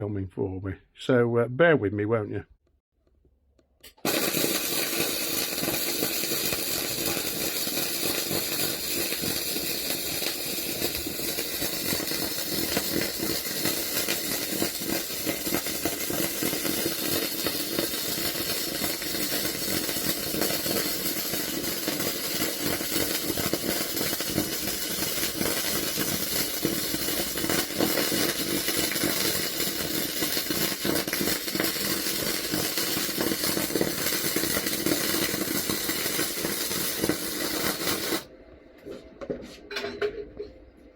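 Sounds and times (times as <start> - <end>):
welding arc buzzing crackle: 3.8 - 38.3.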